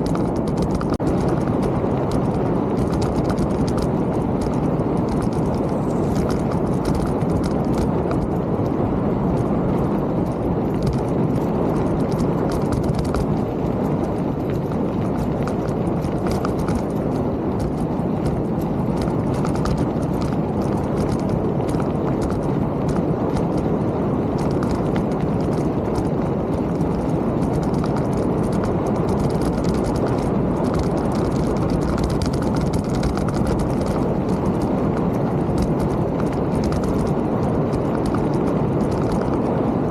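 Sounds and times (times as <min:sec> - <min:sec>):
bike rattling over rough ground: 0:00.0 - 0:39.9
wind on microphone: 0:00.0 - 0:39.9.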